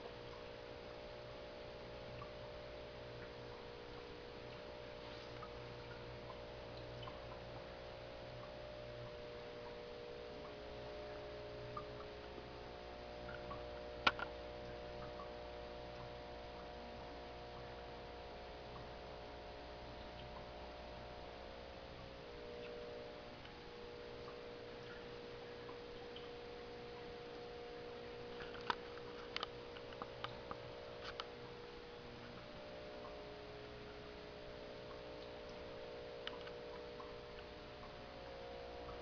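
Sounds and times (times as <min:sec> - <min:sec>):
aquarium equipment humming: 0:00.0 - 0:39.0
water dripping: 0:00.0 - 0:39.0.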